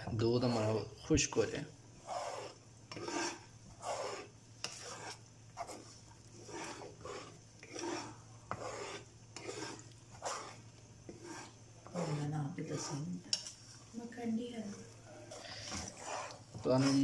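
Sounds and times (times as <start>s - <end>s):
wooden spatula scraping thick paste: 0.0s - 17.0s.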